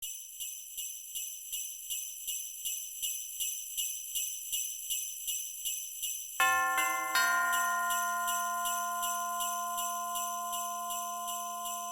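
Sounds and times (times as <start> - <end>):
jingle bells shaken: 0.0 - 11.9.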